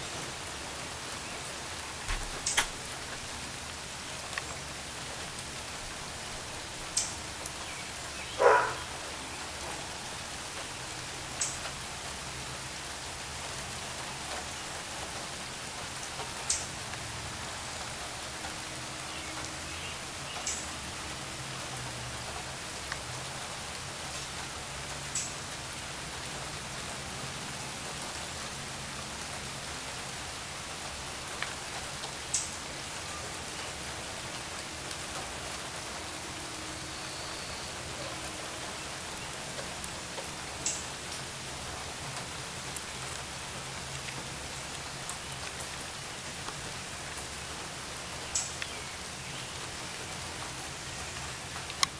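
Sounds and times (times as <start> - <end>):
rain on wet pavement: 0.0 - 51.9.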